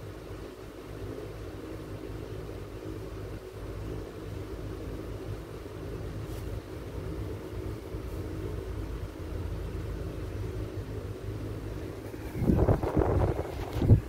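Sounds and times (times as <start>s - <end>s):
kitchen rumble and hum: 0.0s - 14.0s.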